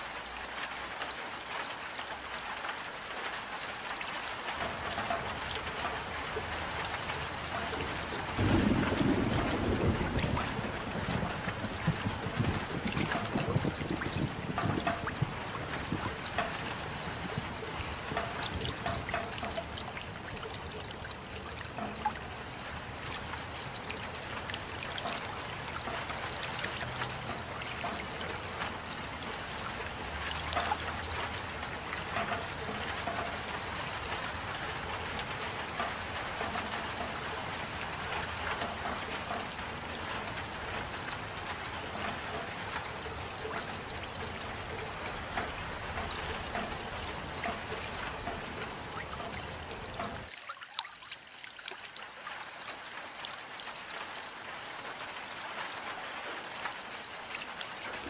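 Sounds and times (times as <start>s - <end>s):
steady rain: 0.0s - 58.0s
water trickling: 0.0s - 58.0s.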